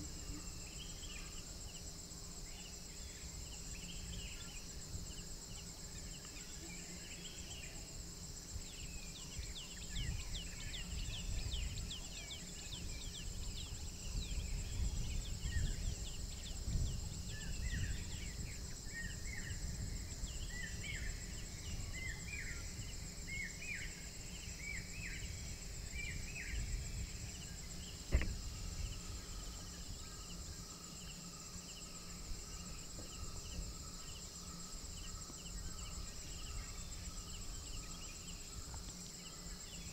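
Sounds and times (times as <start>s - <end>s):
faint steady tone: 0.0s - 39.9s
insects trilling: 0.0s - 39.9s.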